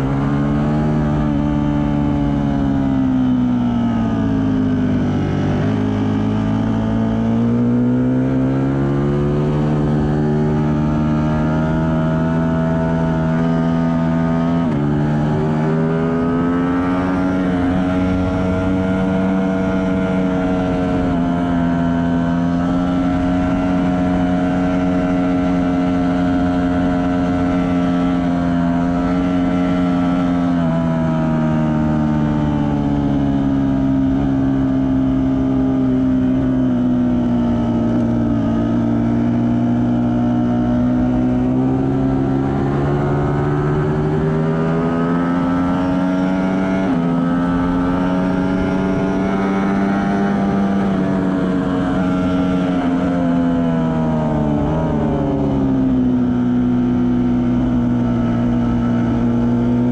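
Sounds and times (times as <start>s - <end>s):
motorcycle engine under high load: 0.0s - 59.9s.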